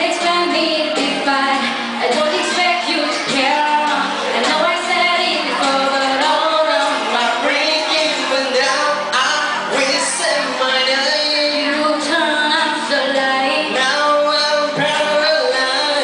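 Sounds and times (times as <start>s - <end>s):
live band playing pop song: 0.0s - 16.0s
person singing lead vocal: 0.0s - 16.0s.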